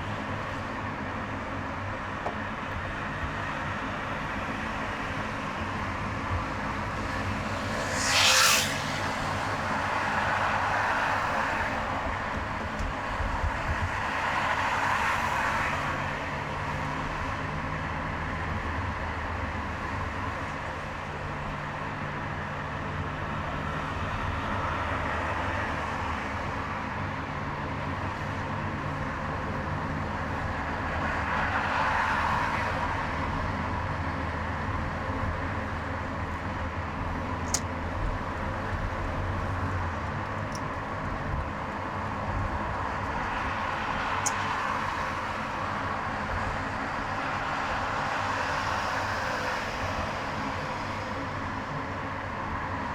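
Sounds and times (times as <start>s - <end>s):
car engine hum: 0.0s - 52.9s
tyre and traffic noise: 0.0s - 52.9s.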